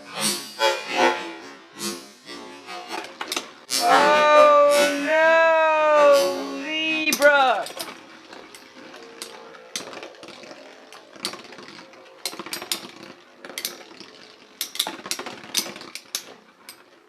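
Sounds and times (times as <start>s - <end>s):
spinning tops whirring: 2.9s - 17.0s.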